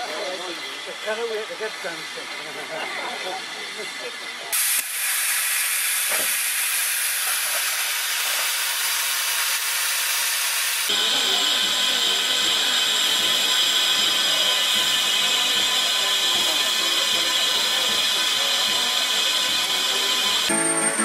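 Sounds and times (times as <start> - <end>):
steam hissing from locomotive: 0.0 - 21.0.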